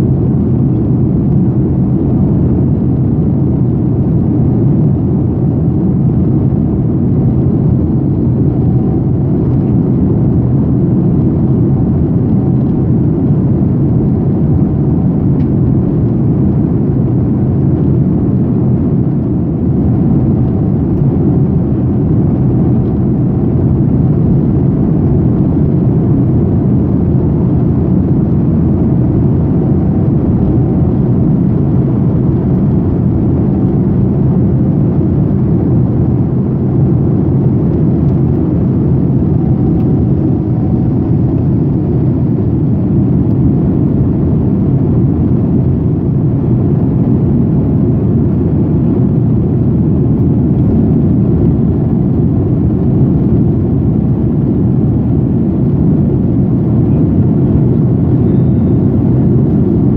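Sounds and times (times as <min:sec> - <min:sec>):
airliner engines low rumble: 0:00.0 - 0:59.9.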